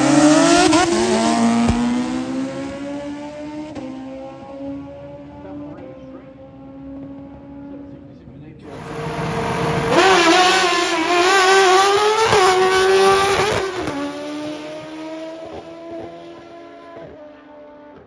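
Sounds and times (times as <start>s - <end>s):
motorcycles accelerating at full throttle: 0.0s - 18.0s.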